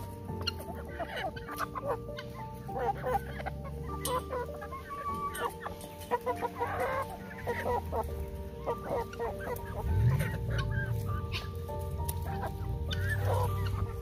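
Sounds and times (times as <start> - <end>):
chickens clucking: 0.0 - 14.0
soft background music: 0.0 - 14.0.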